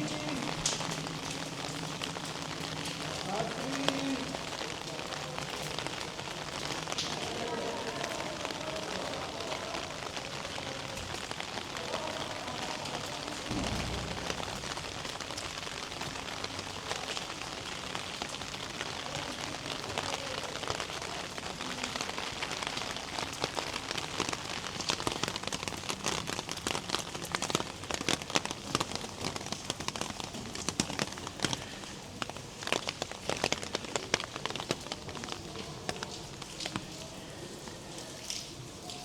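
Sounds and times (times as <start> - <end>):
rain patter with drop hits: 0.0 - 39.0.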